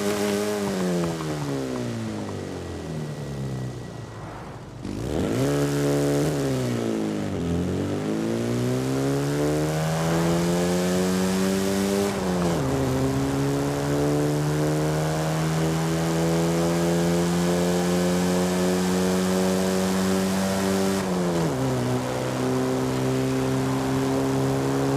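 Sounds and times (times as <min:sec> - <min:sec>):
car engine accelerating through gears: 0:00.0 - 0:24.9.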